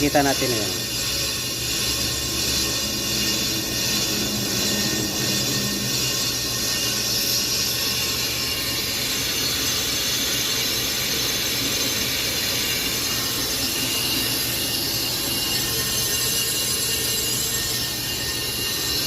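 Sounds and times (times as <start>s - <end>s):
high metallic squeal of cutting: 0.0s - 19.0s
lathe mechanical whir: 0.0s - 19.0s.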